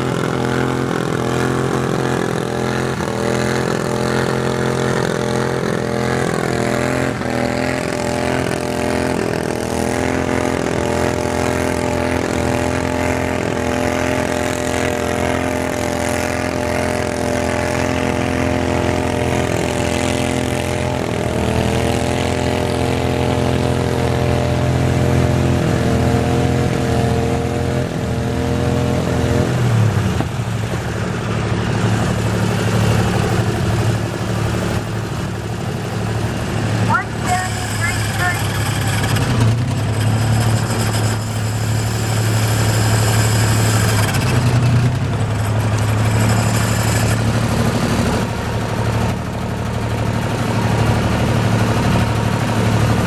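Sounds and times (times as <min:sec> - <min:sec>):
garden tractor engine running: 0:00.0 - 0:53.0.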